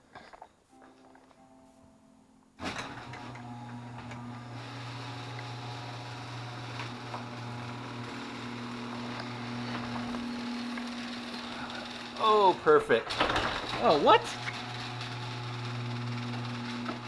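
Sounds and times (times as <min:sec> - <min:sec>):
garage door opener motor hum: 0:02.6 - 0:17.0.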